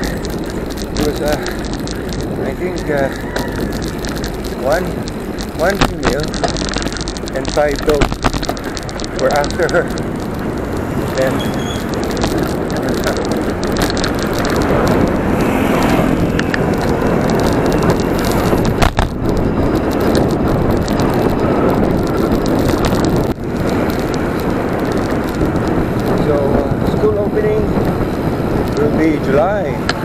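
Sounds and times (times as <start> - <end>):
bicycle rattling clicks: 0.0 - 30.0
tyre road noise rushing: 0.0 - 30.0.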